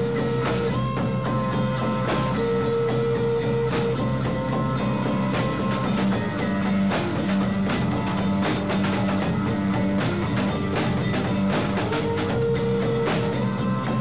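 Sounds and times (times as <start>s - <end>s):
drum kit hits: 0.0s - 14.0s
electric guitar: 0.0s - 14.0s.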